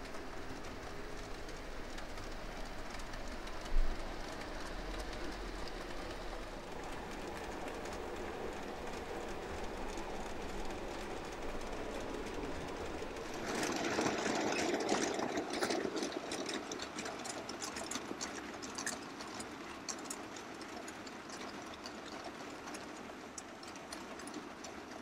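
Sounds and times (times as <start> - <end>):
model train running: 0.0 - 25.0
wheels clicking on rails: 0.0 - 25.0.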